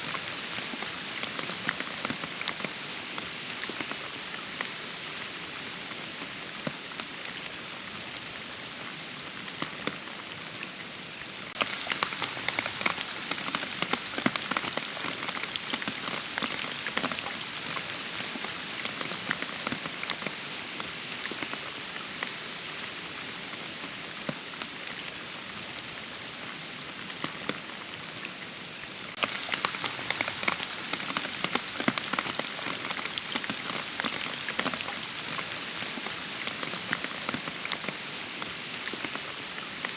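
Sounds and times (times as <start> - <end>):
rain with drops ticking: 0.0 - 39.9.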